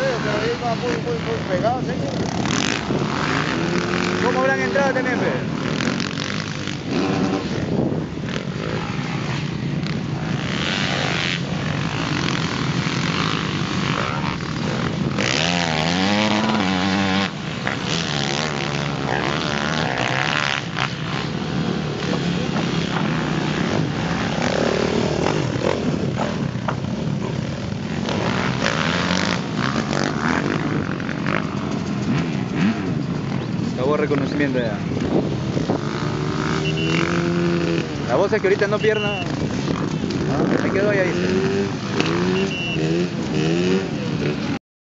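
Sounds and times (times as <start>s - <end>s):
dirt bike engines revving: 0.0s - 44.6s.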